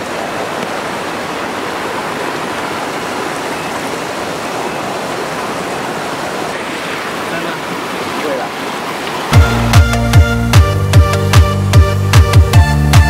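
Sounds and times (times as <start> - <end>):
stream rushing over stones: 0.0 - 10.9.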